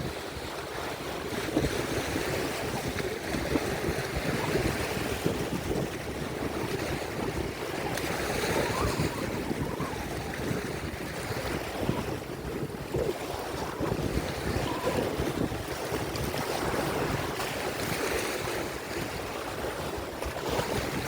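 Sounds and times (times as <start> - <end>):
lake waves washing on shore: 0.0 - 21.0
wind buffeting microphone: 0.0 - 21.0.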